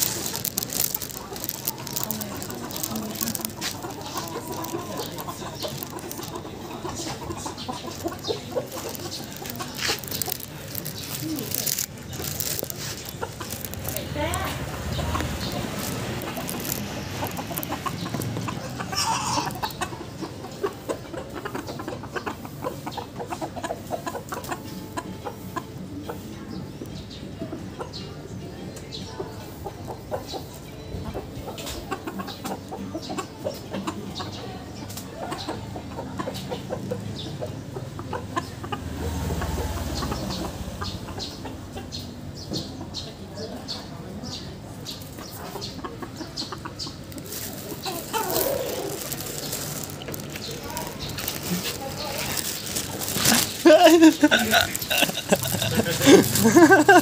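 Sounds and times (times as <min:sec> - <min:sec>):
chickens clucking softly: 0:00.0 - 0:57.0.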